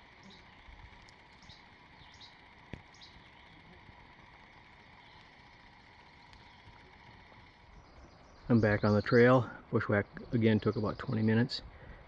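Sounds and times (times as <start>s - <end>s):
faint forest ambience: 0.0s - 12.0s.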